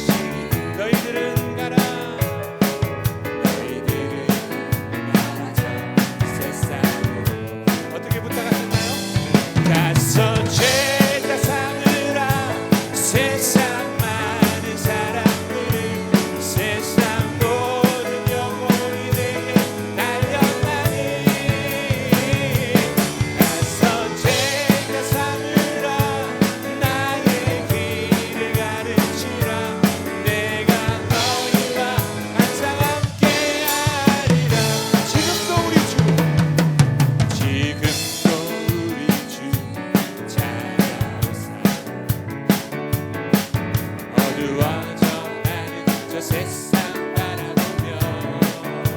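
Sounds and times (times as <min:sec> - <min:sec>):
drum kit beat: 0:00.0 - 0:48.9
worship band music: 0:00.0 - 0:48.9.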